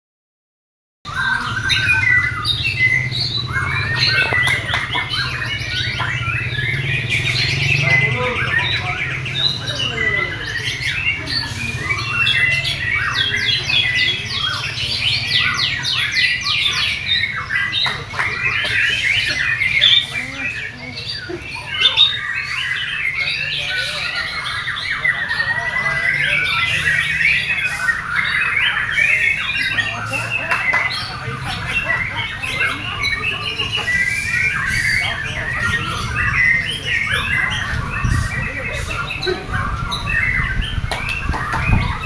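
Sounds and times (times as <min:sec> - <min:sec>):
songbird singing: 0:01.1 - 0:42.0.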